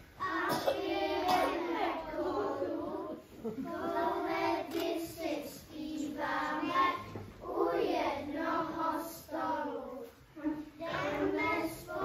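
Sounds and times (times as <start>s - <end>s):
children singing together: 0.1s - 12.0s.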